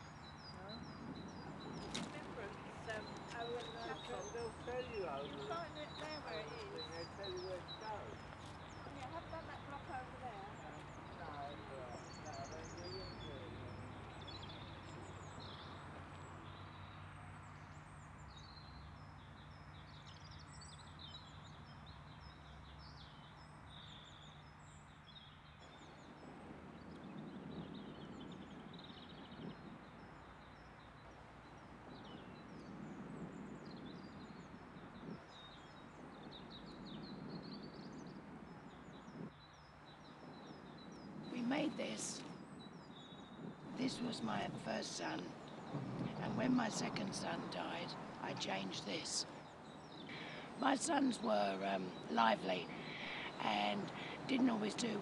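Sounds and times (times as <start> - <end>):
faint outdoor background noise: 0.0 - 55.0
small birds chirping and singing: 0.0 - 55.0.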